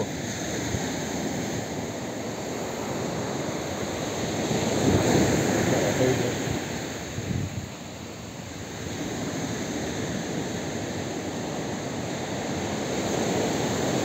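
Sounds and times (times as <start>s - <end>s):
sea waves breaking on beach: 0.0s - 14.0s
wind buffeting microphone: 0.0s - 14.0s.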